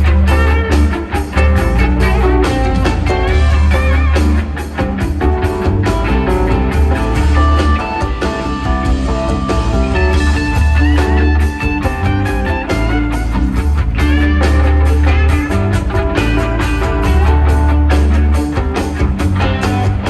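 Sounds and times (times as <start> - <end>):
electric guitar lead lines: 0.0 - 20.0
heavy bass: 0.0 - 20.0
steady drums: 0.0 - 20.0.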